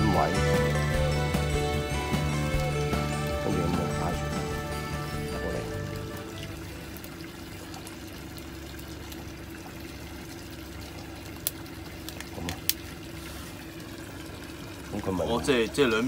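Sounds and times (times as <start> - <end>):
trickling water: 0.0 - 16.0.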